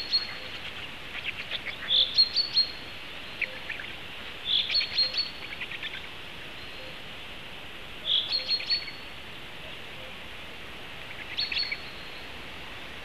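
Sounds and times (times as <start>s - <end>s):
songbird singing: 0.0s - 13.0s
steady outdoor hiss: 0.0s - 13.0s.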